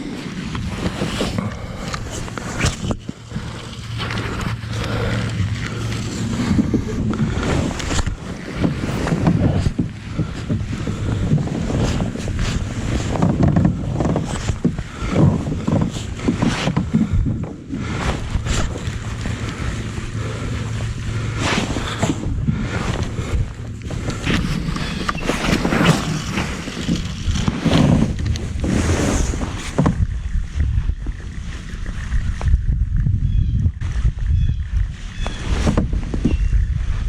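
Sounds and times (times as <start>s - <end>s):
water lapping against hull: 0.0s - 37.0s
wind buffeting microphone: 0.0s - 37.0s.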